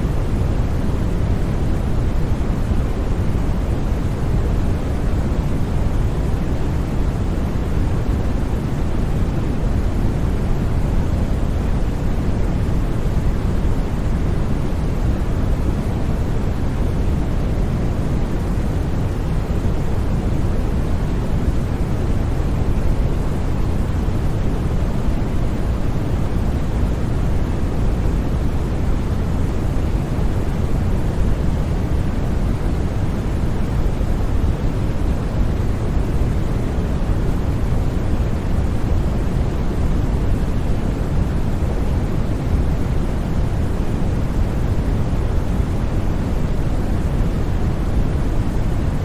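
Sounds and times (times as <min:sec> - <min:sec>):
steady white noise: 0:00.0 - 0:49.0.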